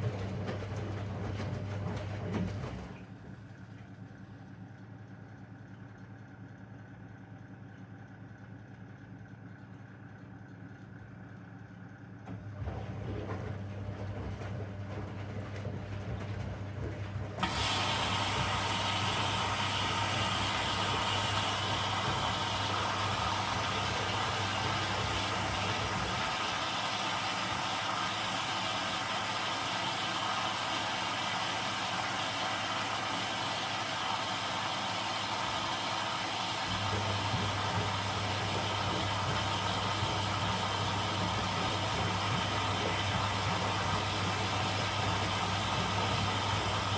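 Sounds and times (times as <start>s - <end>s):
washing machine rushing noise: 0.0s - 3.8s, 12.2s - 46.9s
washing machine low hum: 0.0s - 4.8s, 10.9s - 46.9s.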